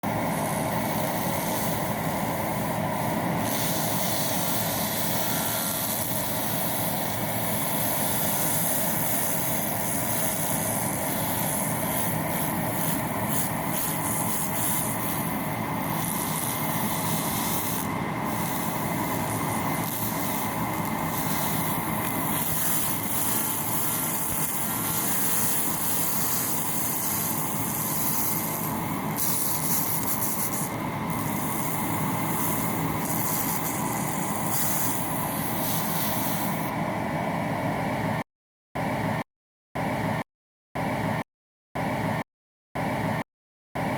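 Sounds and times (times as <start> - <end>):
laser cleaning hiss: 0.0 - 36.7.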